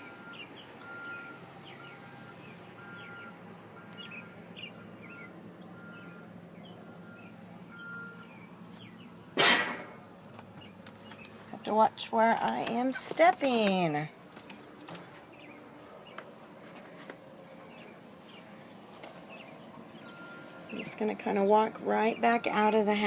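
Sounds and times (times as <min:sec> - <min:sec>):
birds chirping: 0:00.0 - 0:09.4, 0:10.0 - 0:23.0.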